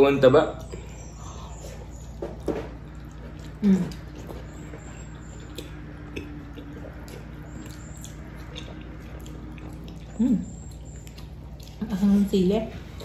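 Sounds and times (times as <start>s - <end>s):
chewing sounds: 0.0s - 13.0s
low steady hum: 0.0s - 13.0s.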